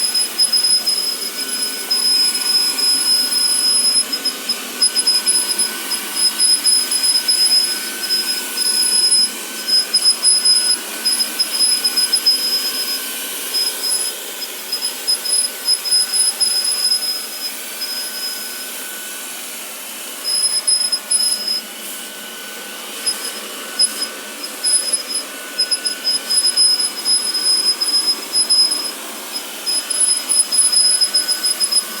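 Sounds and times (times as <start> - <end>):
high-pitched chattering squeak: 0.0 - 18.4, 20.2 - 21.6, 22.9 - 32.0
vacuum cleaner running: 0.0 - 32.0.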